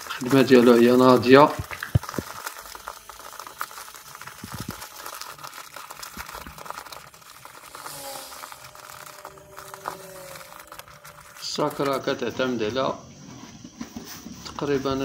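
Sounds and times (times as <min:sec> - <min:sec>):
bag material crinkling: 0:00.0 - 0:12.7.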